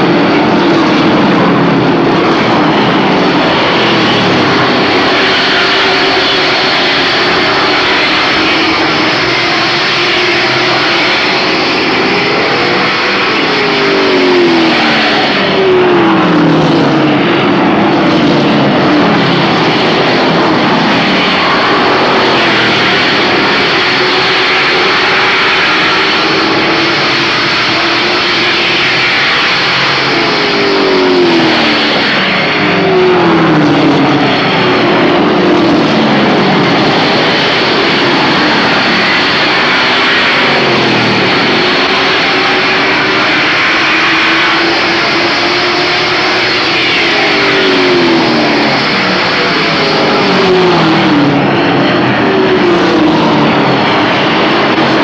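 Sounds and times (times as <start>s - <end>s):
race truck engines roaring: 0.0s - 55.0s
trucks passing by: 0.0s - 55.0s.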